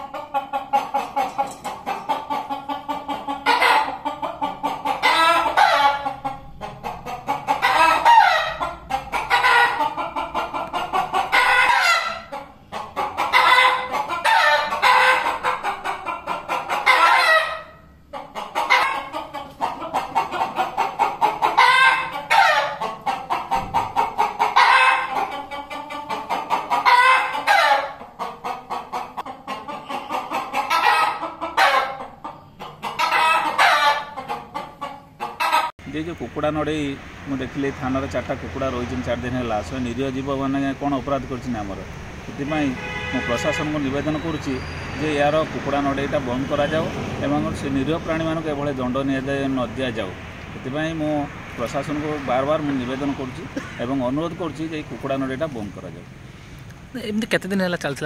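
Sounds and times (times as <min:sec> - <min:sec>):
roosters crowing: 0:00.0 - 0:56.6
chickens clucking: 0:00.0 - 0:57.0.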